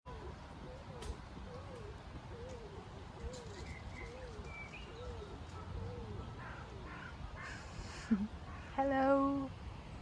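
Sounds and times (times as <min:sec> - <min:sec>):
pigeon cooing: 0:00.1 - 0:08.7.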